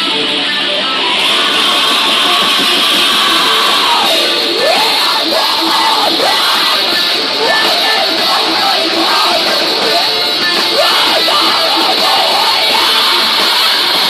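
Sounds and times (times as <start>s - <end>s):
distorted electric guitars: 0.0s - 14.0s
drums: 0.0s - 14.0s
shouted vocal: 1.0s - 14.0s.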